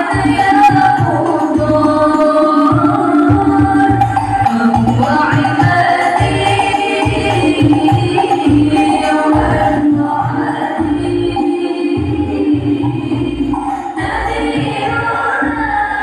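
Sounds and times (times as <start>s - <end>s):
loud music with singing: 0.0s - 16.0s.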